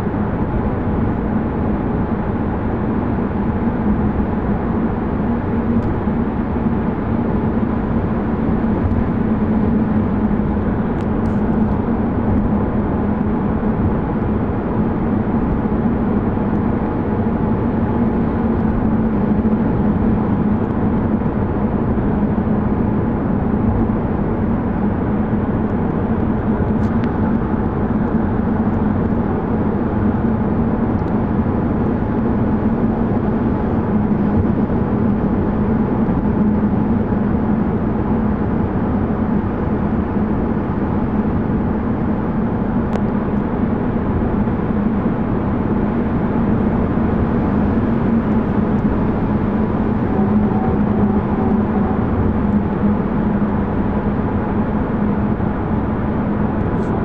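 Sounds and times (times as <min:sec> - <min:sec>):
car interior road noise: 0:00.0 - 0:57.0.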